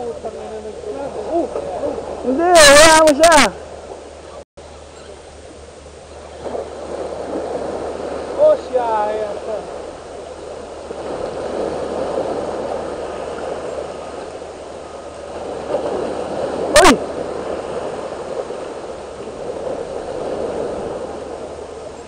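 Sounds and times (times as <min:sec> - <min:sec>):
waves splashing against boulders: 0:00.0 - 0:04.4, 0:05.7 - 0:22.0.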